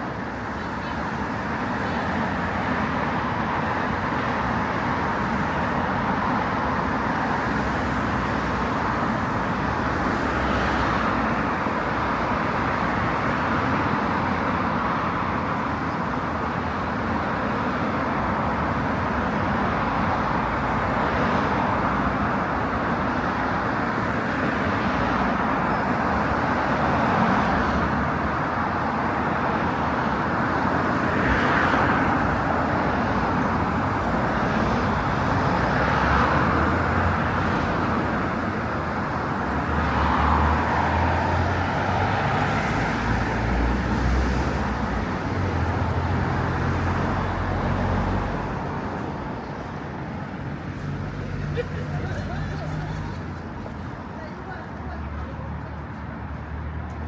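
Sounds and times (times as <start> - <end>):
road traffic hum: 0.0 - 57.0.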